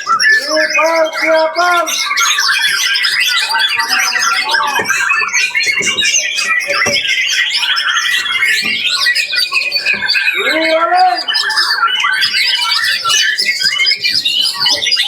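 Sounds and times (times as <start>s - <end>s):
buzzy bird trill: 0.0s - 15.0s
caged songbirds singing: 0.0s - 15.0s.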